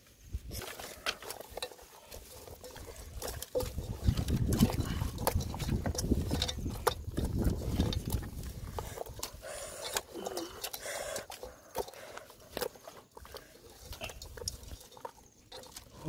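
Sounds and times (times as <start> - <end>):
hands squelching on raw fish: 0.0 - 16.0
small clicks against metal pot: 0.6 - 16.0.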